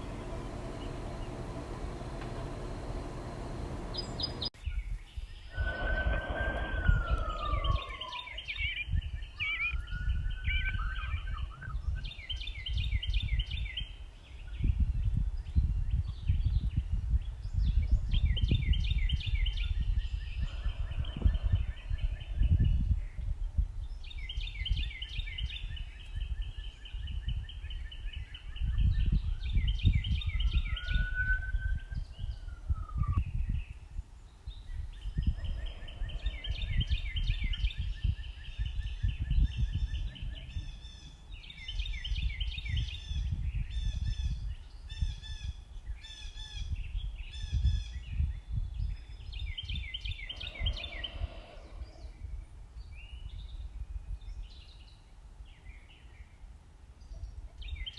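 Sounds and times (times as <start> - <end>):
low gusty rumble: 0.0 - 54.7
songbirds singing: 0.0 - 57.9.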